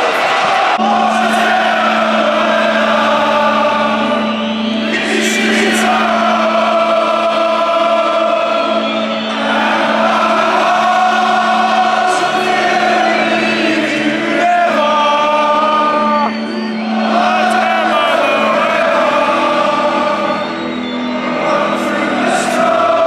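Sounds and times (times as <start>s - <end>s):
music: 0.0s - 23.0s
stadium crowd singing: 0.0s - 23.0s.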